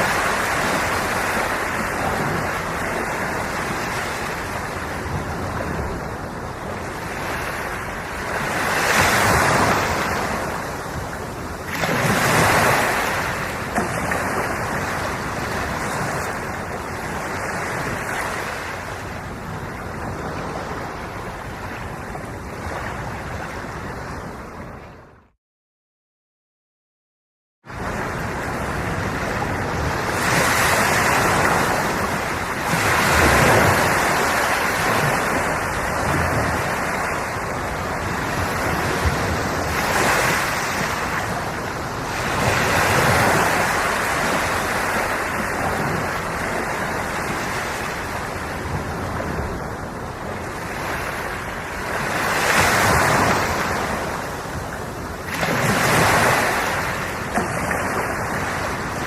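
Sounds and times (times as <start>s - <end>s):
ocean waves breaking: 0.0s - 25.1s, 27.7s - 59.0s.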